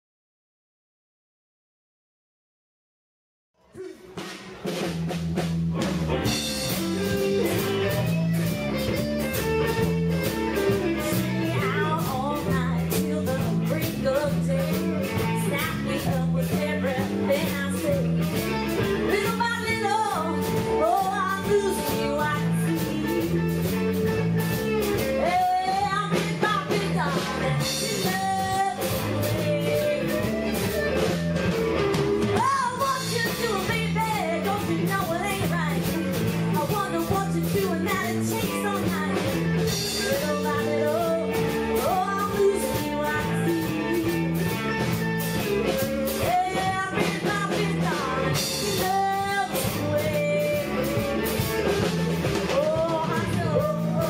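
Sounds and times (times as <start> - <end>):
live blues-rock band playing: 4.0 - 54.0
woman singing lead: 9.8 - 54.0.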